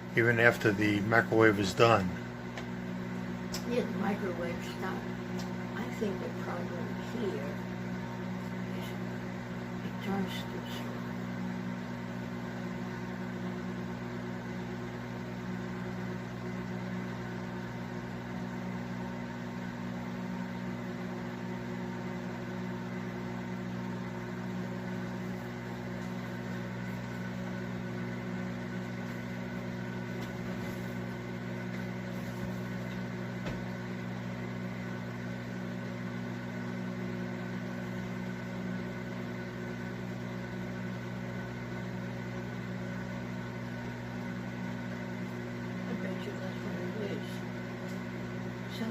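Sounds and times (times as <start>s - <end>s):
microwave oven humming: 0.0s - 48.9s.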